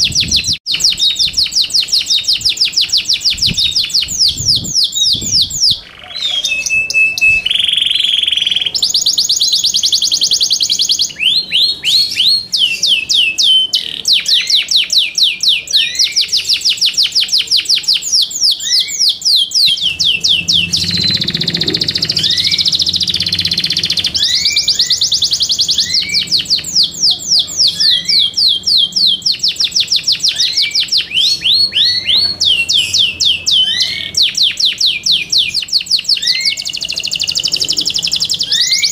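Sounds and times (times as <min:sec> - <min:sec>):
canary singing fast trills: 0:00.0 - 0:38.9.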